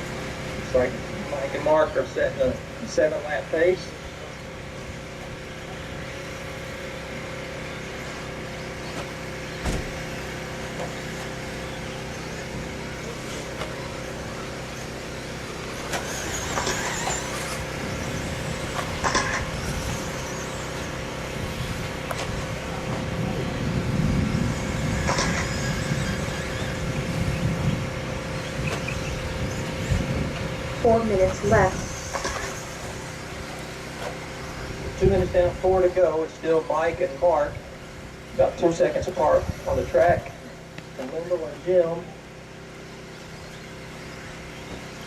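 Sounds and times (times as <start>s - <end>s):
rc truck electric motors whining: 0.0s - 45.0s
steady background hum: 0.0s - 45.0s.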